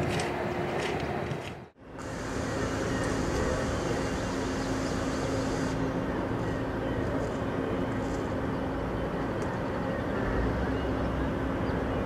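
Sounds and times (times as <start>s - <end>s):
diesel engines idling: 1.8s - 12.0s.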